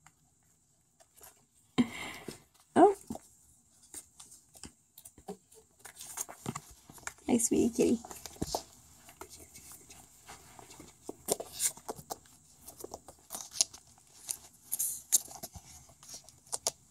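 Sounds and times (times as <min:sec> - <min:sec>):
claws scrabbling on wooden floor: 0:02.6 - 0:16.9.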